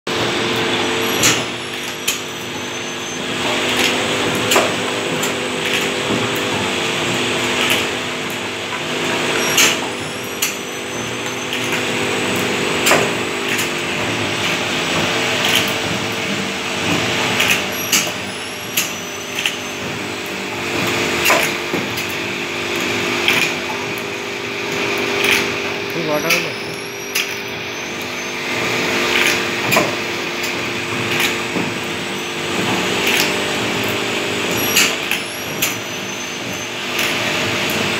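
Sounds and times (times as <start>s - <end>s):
machine motor hum: 0.1s - 37.9s
mechanical clacks: 3.4s - 37.9s.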